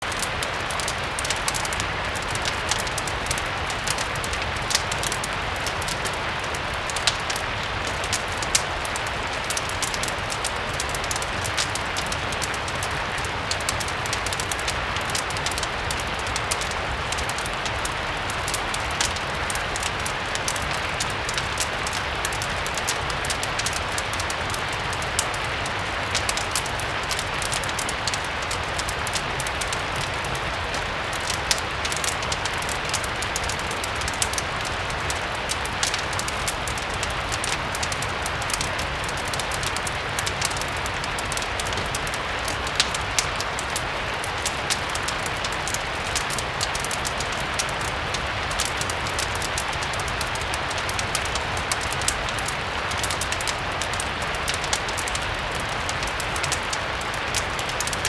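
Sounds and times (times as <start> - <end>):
fire crackling: 0.0 - 58.0
steady rain: 0.0 - 58.0.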